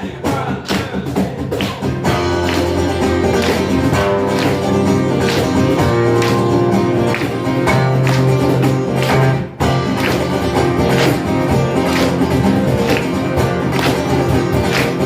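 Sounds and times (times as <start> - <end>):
live band playing guitar-led music: 0.0 - 15.0.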